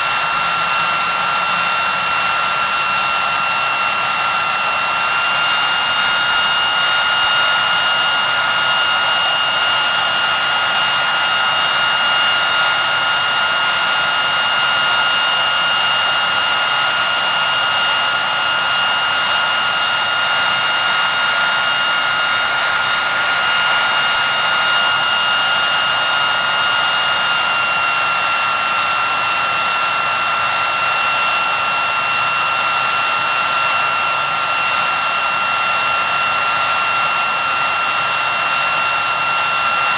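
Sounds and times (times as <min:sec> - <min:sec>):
high-pitched turbine whine: 0:00.0 - 0:39.9
jet engines running: 0:00.0 - 0:39.9.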